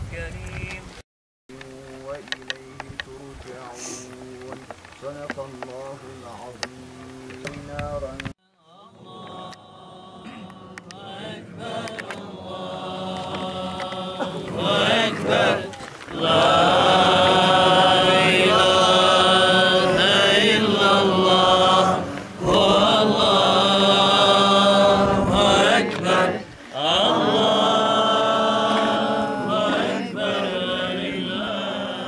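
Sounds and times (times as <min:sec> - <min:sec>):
men chanting prayer: 0:01.5 - 0:32.0.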